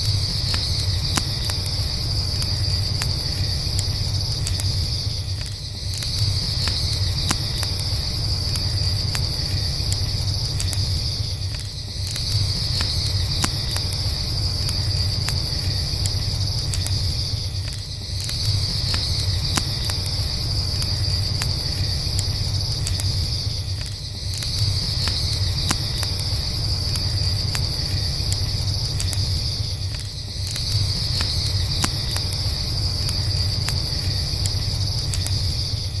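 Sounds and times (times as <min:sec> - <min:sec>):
campfire crackling and popping: 0:00.0 - 0:36.0
crickets chirping: 0:00.0 - 0:36.0.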